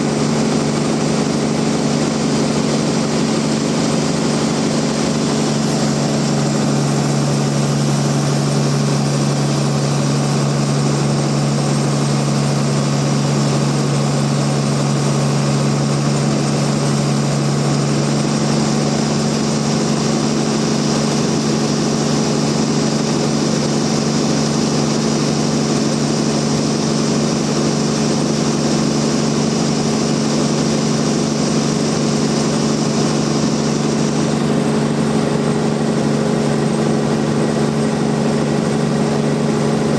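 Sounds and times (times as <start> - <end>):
bandsaw sawmill droning: 0.0 - 39.9.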